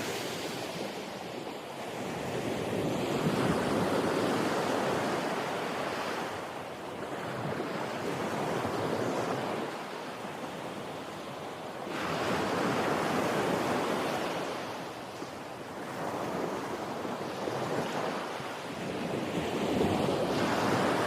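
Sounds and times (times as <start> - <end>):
ocean waves washing in and out: 0.0 - 21.0.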